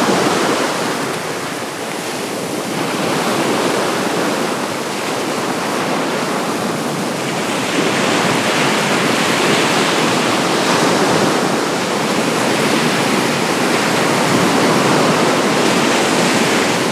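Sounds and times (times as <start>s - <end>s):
waves washing onto shore: 0.0s - 16.9s.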